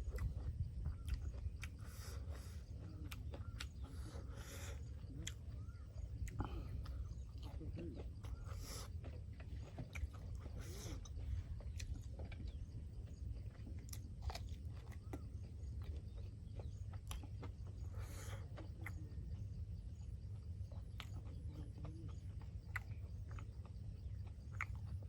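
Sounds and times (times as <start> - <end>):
person chewing with mouth clicks: 0.0 - 25.0
steady low hum: 0.0 - 25.0.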